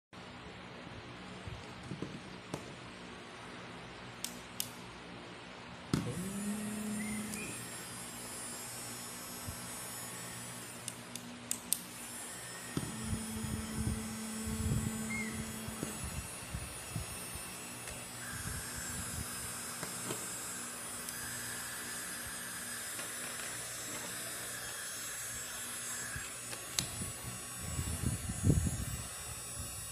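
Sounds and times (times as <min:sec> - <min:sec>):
small vacuum motor whining: 0:05.9 - 0:29.9.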